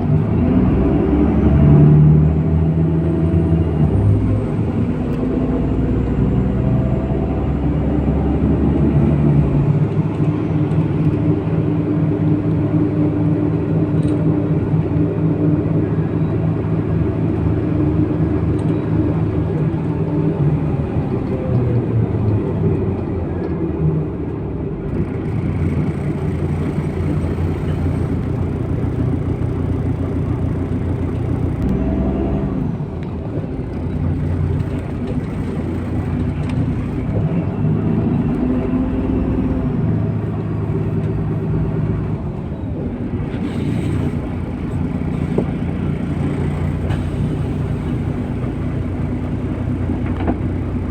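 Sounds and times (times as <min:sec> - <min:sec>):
bus diesel engine: 0:00.0 - 0:50.9
road rumble: 0:00.0 - 0:50.9.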